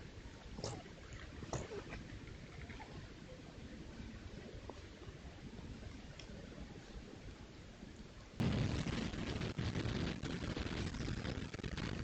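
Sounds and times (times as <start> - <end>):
microphone hiss with low rumble: 0.0 - 12.0.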